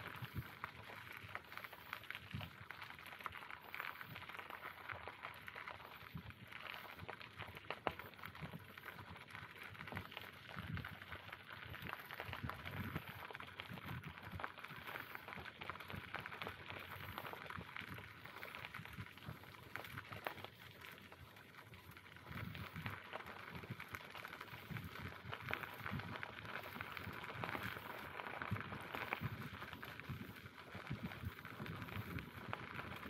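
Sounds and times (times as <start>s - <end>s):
bicycle tyres crackling on ground: 0.0s - 33.0s.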